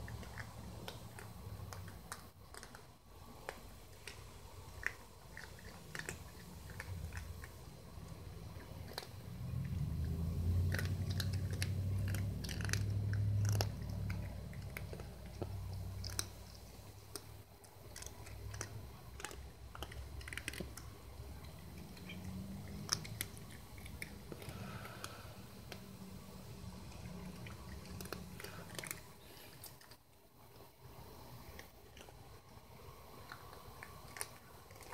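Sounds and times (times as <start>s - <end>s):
cats crunching dry kibble: 0.0s - 34.9s.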